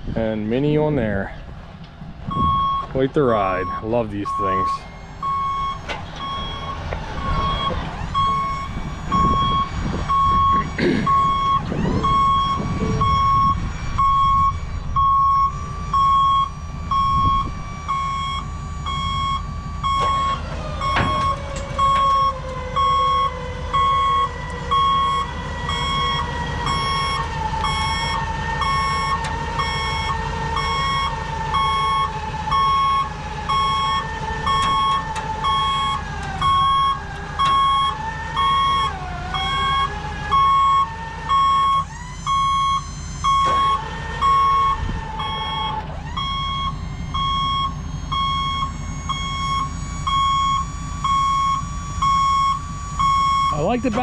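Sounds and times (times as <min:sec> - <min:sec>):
engine running: 0:00.0 - 0:54.0
backup alarm beeping: 0:02.3 - 0:54.0.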